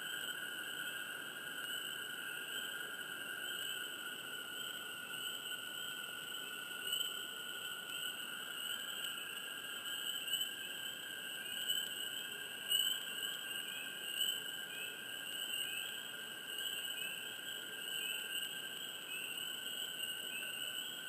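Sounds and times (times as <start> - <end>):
frogs trilling: 0.0 - 21.0.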